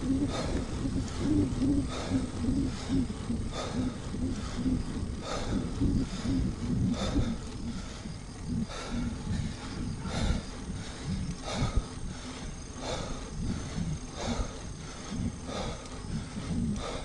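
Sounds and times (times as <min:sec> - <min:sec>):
person breathing hard: 0:00.0 - 0:17.0
wind rumble on microphone: 0:00.0 - 0:17.0.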